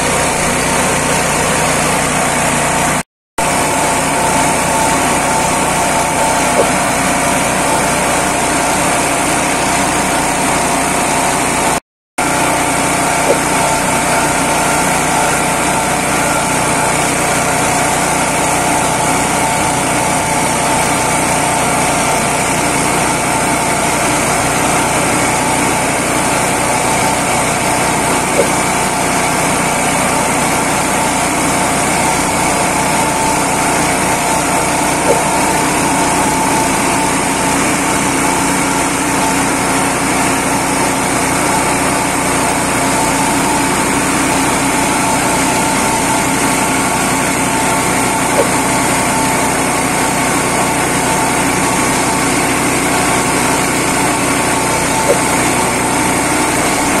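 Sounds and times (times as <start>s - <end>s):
leaf shredder engine chopping leaves: 0.0s - 57.0s.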